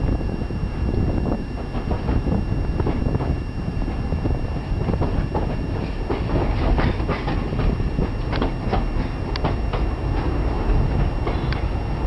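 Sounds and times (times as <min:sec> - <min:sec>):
train wheels rumbling: 0:00.0 - 0:12.0
rail clicks and clacks: 0:01.5 - 0:12.0.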